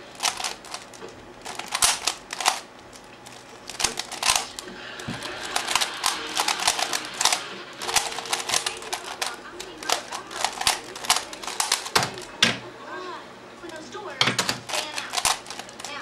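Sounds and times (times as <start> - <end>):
plastic puzzle cube clacking: 0.1 - 12.6, 13.6 - 16.0.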